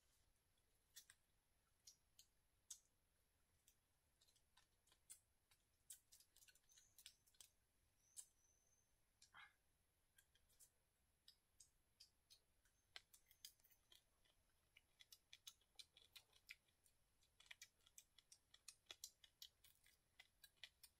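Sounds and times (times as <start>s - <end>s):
faint irregular clicks and ticks: 0.0s - 20.9s.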